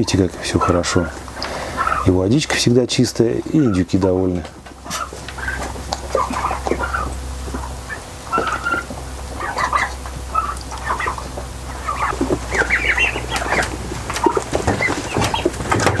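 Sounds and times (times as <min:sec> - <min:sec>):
low steady hum: 0:00.0 - 0:16.0
young turkeys peeping: 0:00.0 - 0:16.0.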